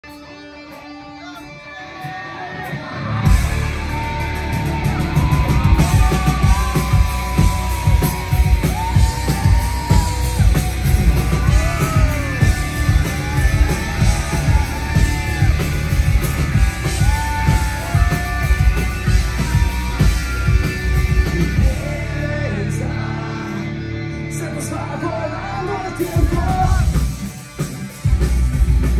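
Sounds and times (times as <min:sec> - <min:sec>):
rock band playing live: 0:00.0 - 0:28.9
loud singing: 0:00.7 - 0:27.4.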